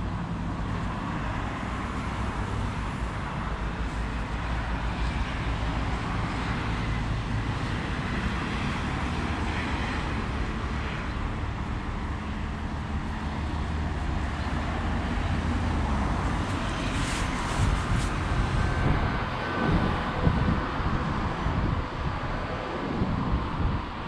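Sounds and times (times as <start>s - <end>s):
traffic noise: 0.0s - 24.0s.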